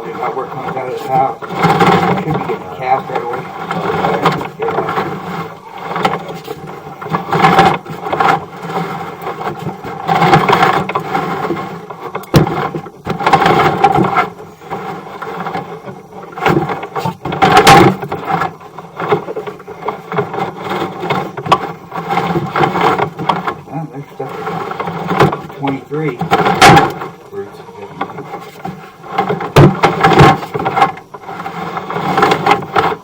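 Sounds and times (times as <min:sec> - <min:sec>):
cable scraping in pipe: 0:00.0 - 0:33.0.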